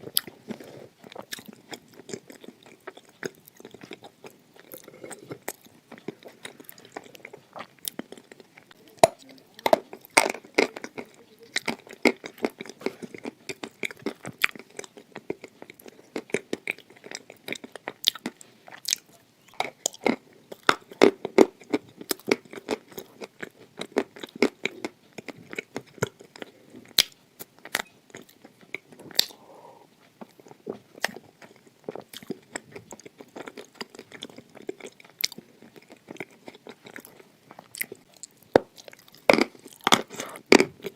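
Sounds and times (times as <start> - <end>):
crunching and chewing clay: 0.0 - 40.9.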